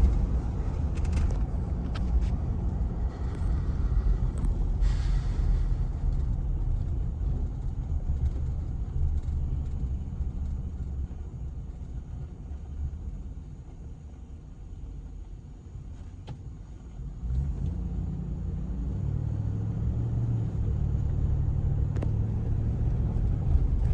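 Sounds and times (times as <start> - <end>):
engine rumble: 0.0 - 23.9.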